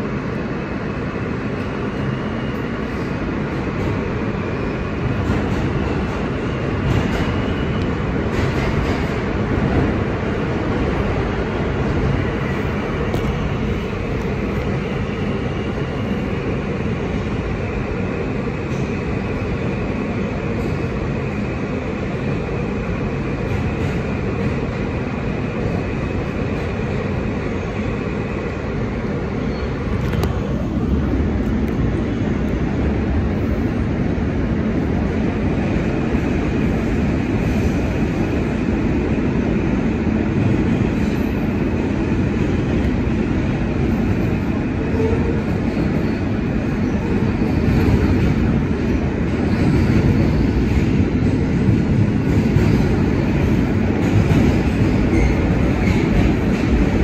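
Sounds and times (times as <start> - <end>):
rumble of wheels on rail: 0.0 - 57.0.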